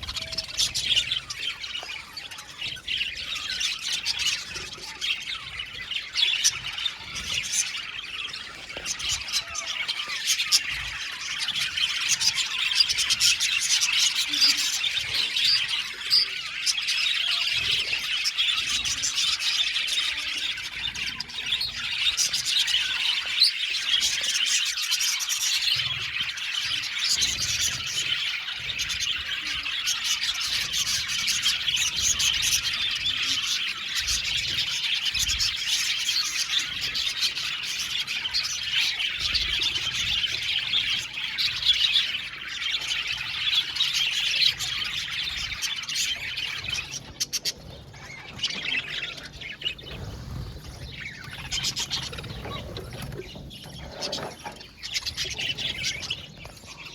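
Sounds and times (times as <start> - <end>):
budgerigars chirping and chattering: 0.0 - 56.9.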